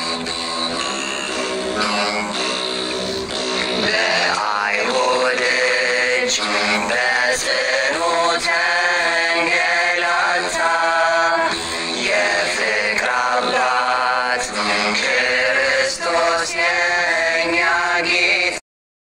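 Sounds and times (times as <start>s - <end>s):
lyre: 0.0s - 17.0s
person singing a slow chant: 0.0s - 18.6s.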